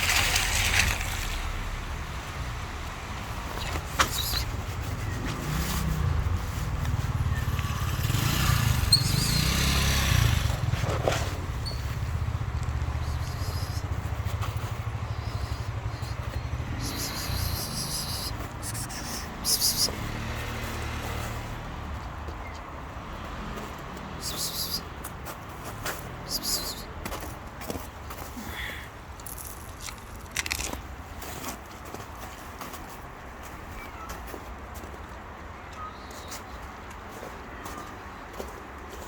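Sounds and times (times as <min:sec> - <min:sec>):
vehicle engine rumbling: 0:00.0 - 0:31.8.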